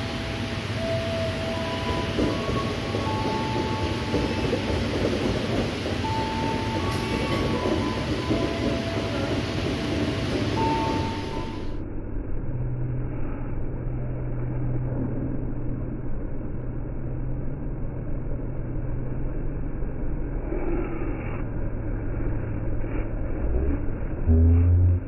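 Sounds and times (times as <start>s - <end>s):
continuous rumble: 0.0s - 25.0s
low mechanical hum: 0.0s - 25.0s.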